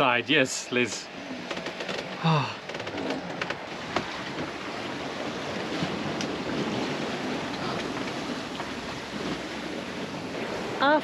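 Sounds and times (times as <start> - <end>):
water splashing against boat: 1.0 - 11.0.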